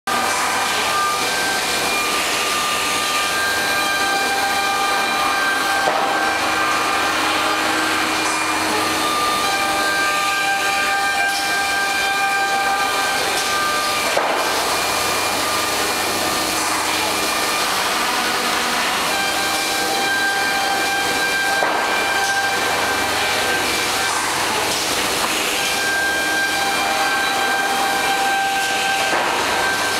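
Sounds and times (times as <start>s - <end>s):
high steady whining tones: 0.1s - 29.9s
woodworking machine rushing noise: 0.1s - 29.9s.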